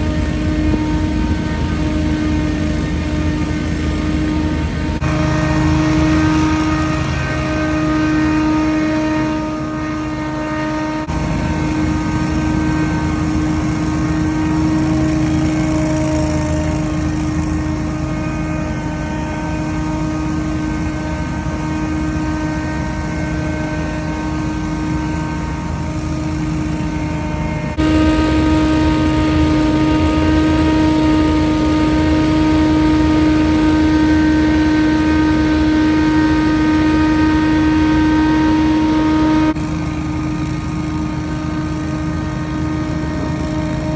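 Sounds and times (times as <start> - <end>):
leaf blower drone: 0.0 - 43.9.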